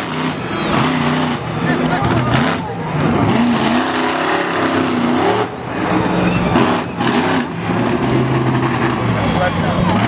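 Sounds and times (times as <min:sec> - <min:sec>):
vehicle engines revving: 0:00.0 - 0:10.0.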